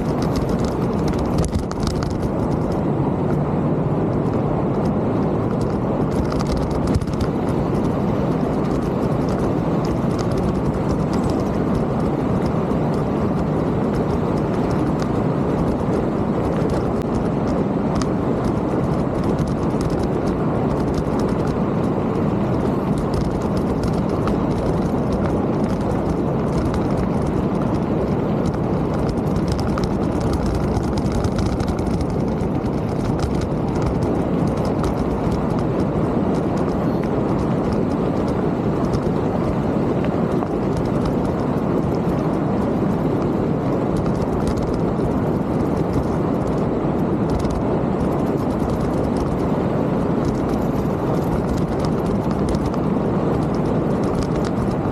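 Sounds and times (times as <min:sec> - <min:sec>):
bike rattling and clicking: 0:00.0 - 0:03.5, 0:04.1 - 0:54.9
wind and tyre noise: 0:00.0 - 0:54.9.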